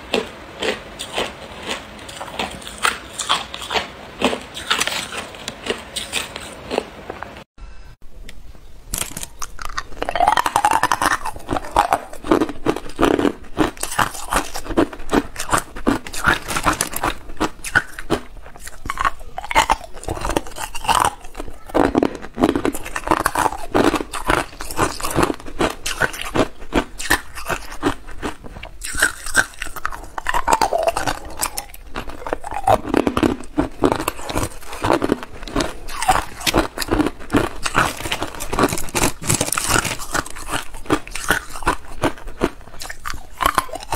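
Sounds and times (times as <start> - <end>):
ice cubes being chewed: 0.1 - 6.9, 8.9 - 43.9.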